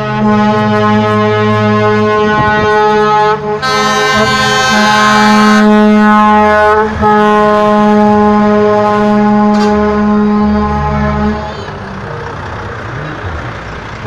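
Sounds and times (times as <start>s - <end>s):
truck air horn blast: 0.0s - 11.8s.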